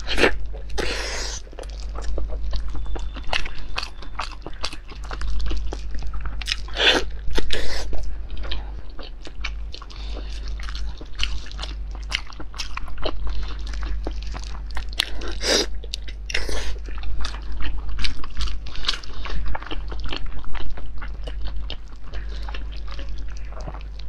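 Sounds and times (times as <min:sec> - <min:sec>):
wet chewing mouth sounds: 0:00.0 - 0:24.0.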